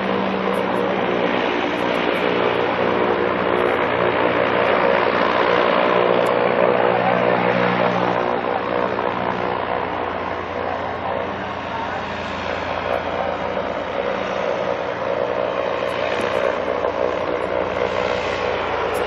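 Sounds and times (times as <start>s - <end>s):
airship engines droning: 0.0s - 19.0s.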